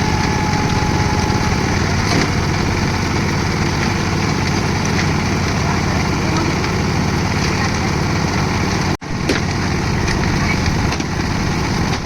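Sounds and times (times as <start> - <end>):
concrete mixer engine running: 0.0 - 12.0.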